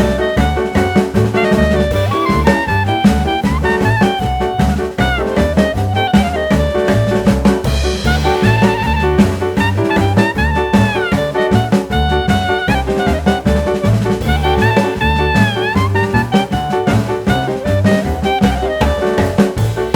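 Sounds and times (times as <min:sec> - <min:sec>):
upbeat jazz music: 0:00.0 - 0:19.9.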